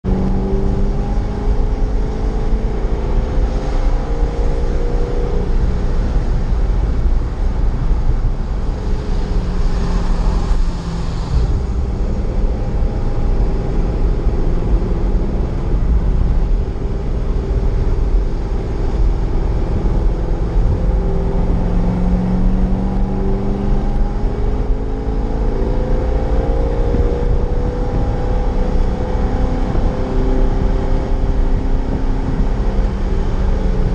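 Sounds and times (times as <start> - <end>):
car engine at racing speed: 0.0 - 33.9
wind and road noise: 0.0 - 33.9.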